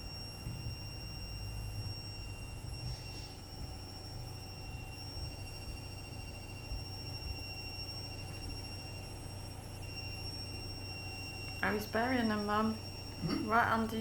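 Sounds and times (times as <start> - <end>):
washing machine running: 0.0 - 14.0.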